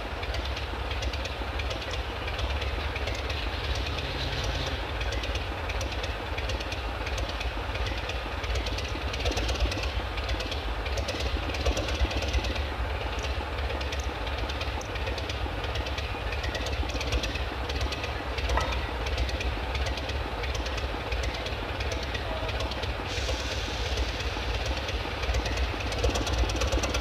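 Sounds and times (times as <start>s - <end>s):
diesel locomotive engine running: 0.0s - 27.0s
clanks and knocks of rolling stock: 0.2s - 23.7s.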